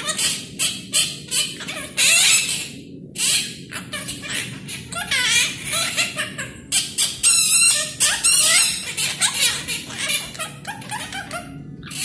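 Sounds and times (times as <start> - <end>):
parrots chattering: 0.0 - 12.0.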